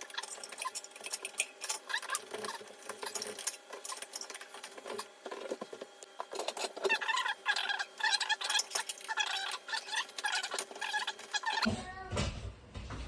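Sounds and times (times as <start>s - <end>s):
small metal parts clicking and rattling: 0.0s - 11.7s.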